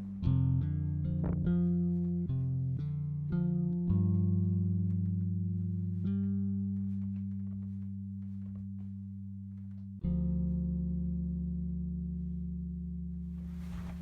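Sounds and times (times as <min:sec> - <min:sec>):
plucked-string background music: 0:00.0 - 0:14.0.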